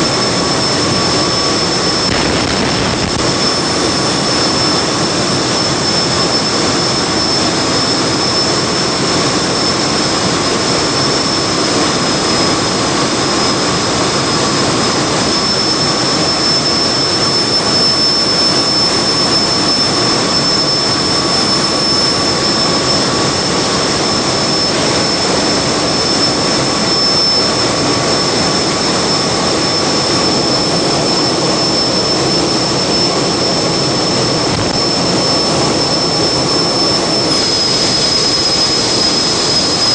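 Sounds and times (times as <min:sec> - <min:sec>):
high mechanical whine: 0:00.0 - 0:39.9
industrial gas engines running: 0:00.0 - 0:39.9.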